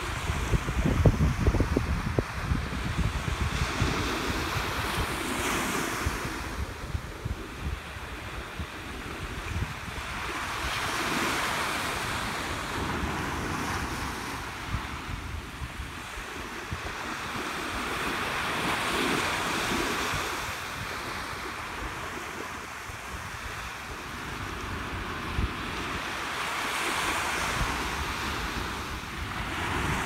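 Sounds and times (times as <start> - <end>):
waves breaking on beach: 0.0 - 30.0
wind buffeting microphone: 0.0 - 30.0.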